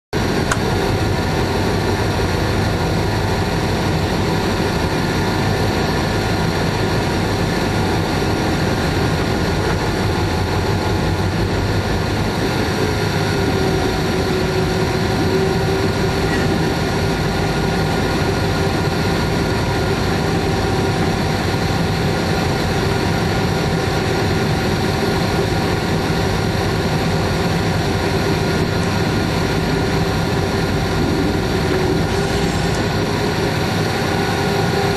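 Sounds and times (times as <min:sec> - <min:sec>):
diesel locomotive engine running: 0:00.1 - 0:34.9.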